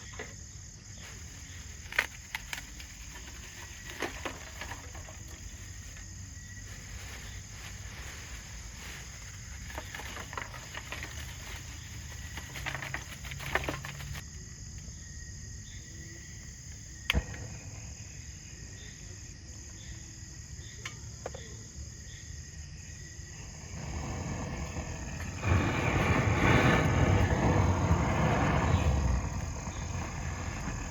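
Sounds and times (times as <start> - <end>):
insects chirring: 0.0 - 30.9.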